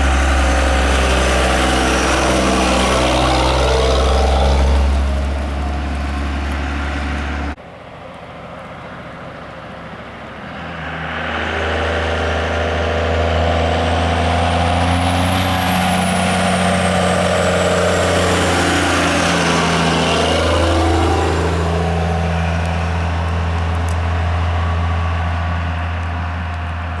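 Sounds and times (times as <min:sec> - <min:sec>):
diesel truck accelerating past: 0:00.0 - 0:27.0.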